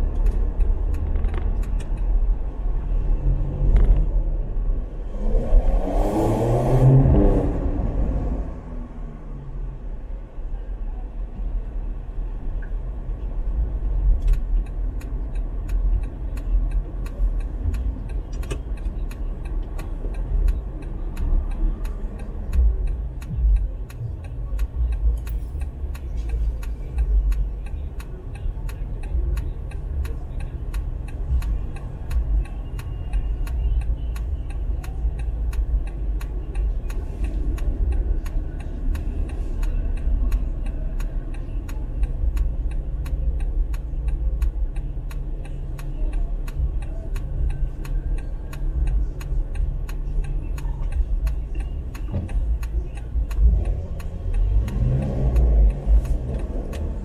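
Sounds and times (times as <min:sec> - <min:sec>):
turn signal ticking: 0:00.0 - 0:09.5, 0:10.1 - 0:57.0
car road and engine rumble: 0:00.0 - 0:57.0.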